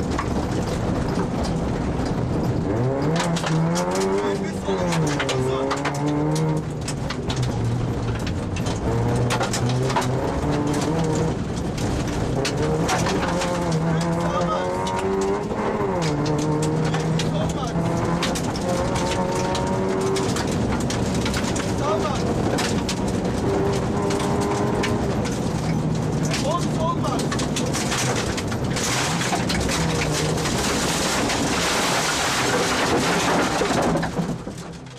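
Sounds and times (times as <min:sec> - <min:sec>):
gravel striking car: 0:00.0 - 0:34.9
rally car engine revving: 0:00.0 - 0:34.9
tyre and road noise: 0:00.0 - 0:34.9.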